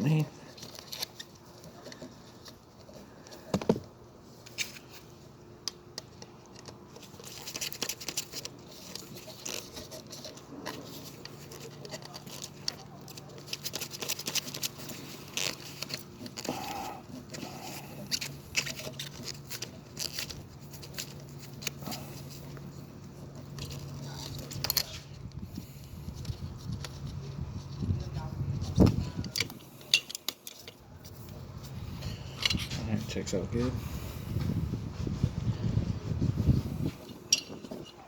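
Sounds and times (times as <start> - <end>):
wires clicking and scraping: 0.0 - 35.3.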